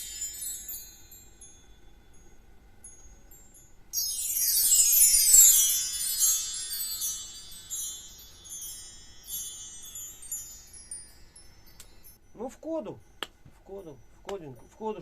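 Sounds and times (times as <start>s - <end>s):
bar chimes glissando: 0.0s - 15.0s.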